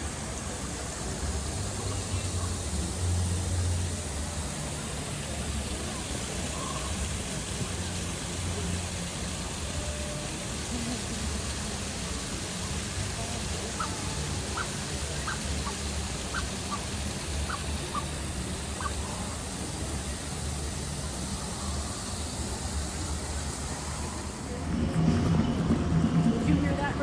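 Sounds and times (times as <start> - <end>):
faint distant voices: 0.0 - 27.0.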